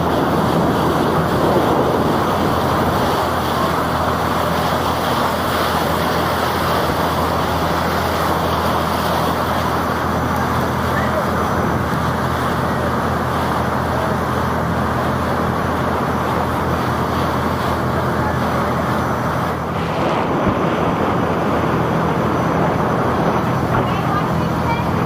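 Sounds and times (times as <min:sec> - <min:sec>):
boat engine drone: 0:00.0 - 0:25.0
water and wind rushing: 0:00.0 - 0:25.0.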